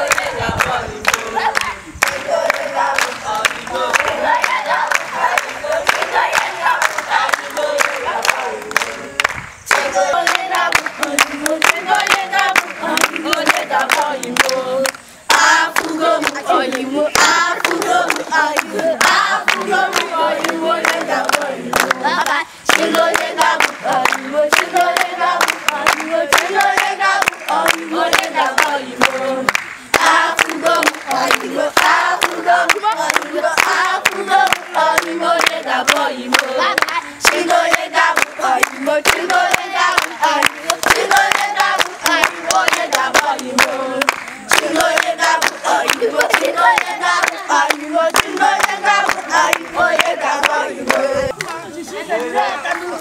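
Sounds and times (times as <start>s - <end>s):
group singing: 0.0s - 53.0s
hands clapping to the beat: 0.0s - 53.0s.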